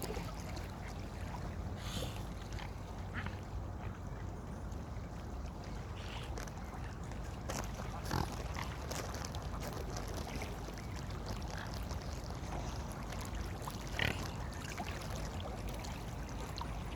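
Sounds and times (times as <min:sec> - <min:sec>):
lake water splashing and lapping: 0:00.0 - 0:16.9.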